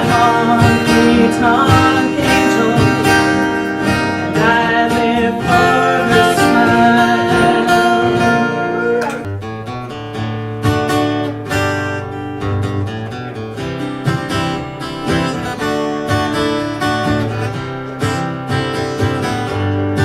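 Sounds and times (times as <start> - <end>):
strummed acoustic guitar: 0.0 - 20.0.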